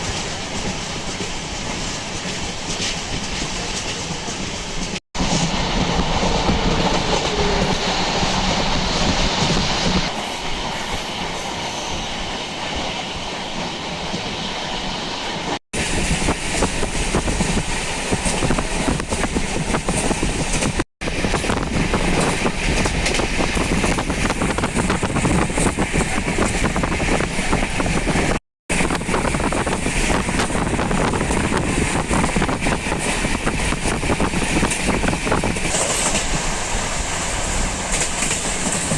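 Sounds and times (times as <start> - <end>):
train running rumble: 0.0 - 38.9.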